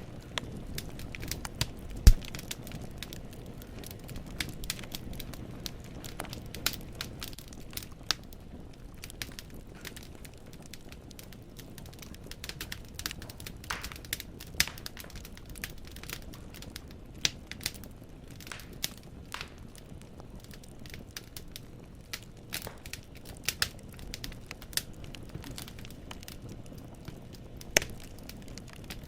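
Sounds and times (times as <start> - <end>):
logs crackling and popping: 0.0 - 29.0
low rumble of flames: 0.0 - 29.0.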